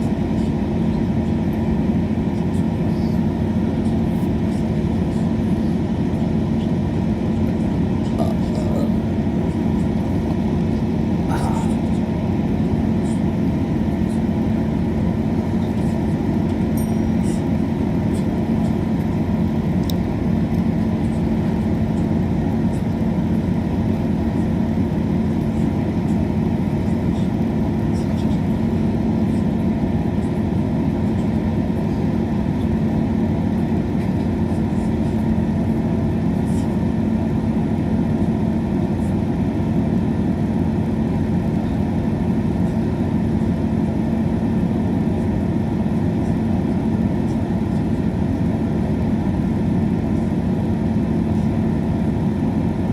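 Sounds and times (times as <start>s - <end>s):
train carriage engine and rail drone: 0.0s - 52.9s.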